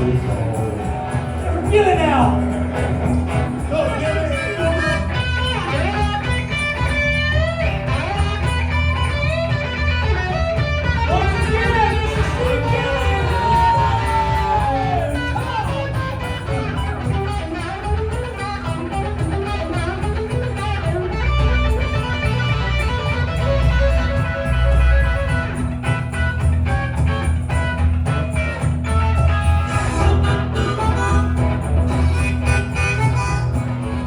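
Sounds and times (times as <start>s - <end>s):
bass guitar: 0.0s - 34.0s
lead guitar with pitch bends: 0.0s - 34.0s
rhythm guitar: 0.0s - 34.0s.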